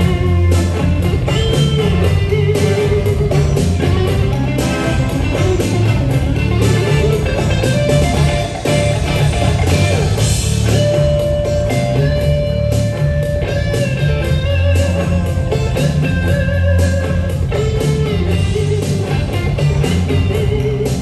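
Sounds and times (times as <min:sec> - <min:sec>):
bass and drum beat: 0:00.0 - 0:21.0
lead guitar line: 0:00.0 - 0:21.0.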